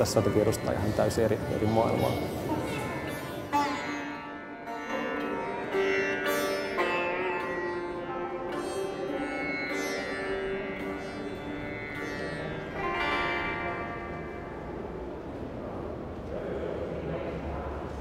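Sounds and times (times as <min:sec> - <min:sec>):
sitar playing: 0:00.0 - 0:15.6.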